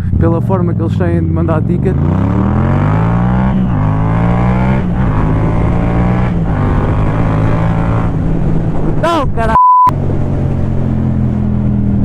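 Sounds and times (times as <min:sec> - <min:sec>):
motorcycle engine accelerating: 0:00.0 - 0:09.1, 0:09.9 - 0:12.0.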